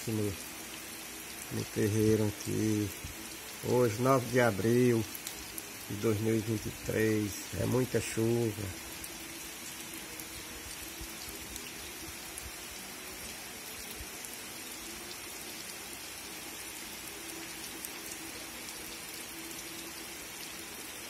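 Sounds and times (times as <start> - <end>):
heavy rain on trees: 0.0 - 21.0
rain drops ticking: 0.0 - 21.0.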